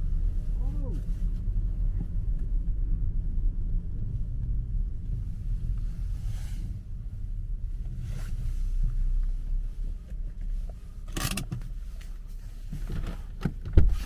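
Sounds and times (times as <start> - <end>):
car road rumble: 0.0 - 14.0.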